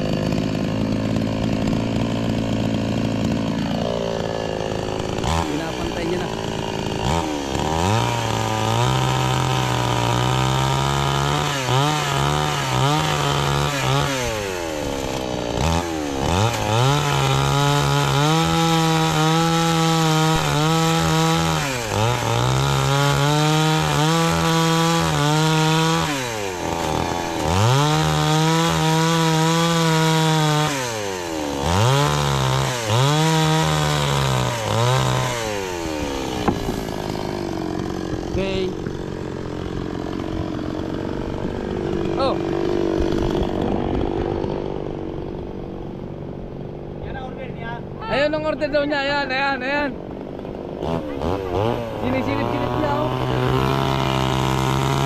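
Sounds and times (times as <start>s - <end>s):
chainsaw cutting wood: 0.0s - 47.1s, 48.2s - 55.0s.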